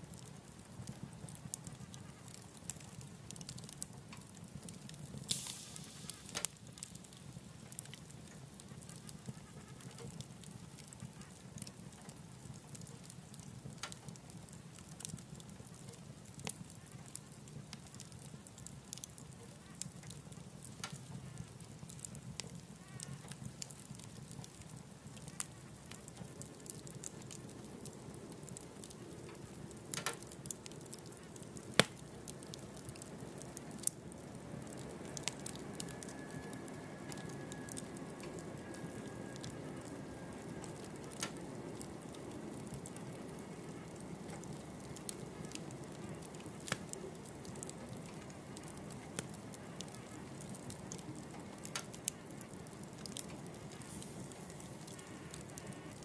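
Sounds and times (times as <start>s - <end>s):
low flame rustle: 0.0s - 56.0s
wood fire crackling and popping: 0.0s - 56.0s.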